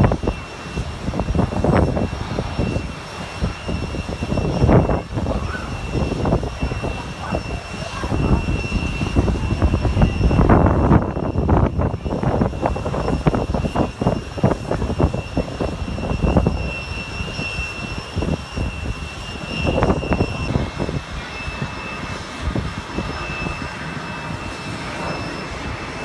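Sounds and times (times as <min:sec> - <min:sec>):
high engine whine: 0:00.0 - 0:26.0
jet engine rumble: 0:00.0 - 0:26.0.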